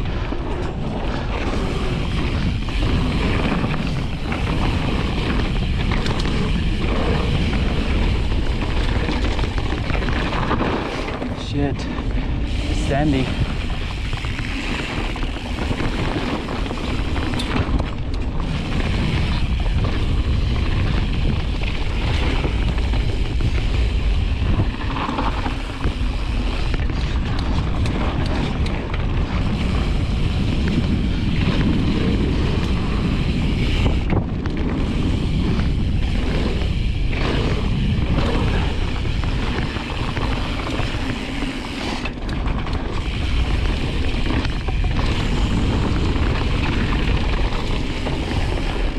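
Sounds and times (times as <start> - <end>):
bike knocks and rattles: 0.0 - 12.6, 13.3 - 48.9
wind on camera microphone: 0.0 - 41.3
bike tyres rolling on dirt: 0.0 - 48.9.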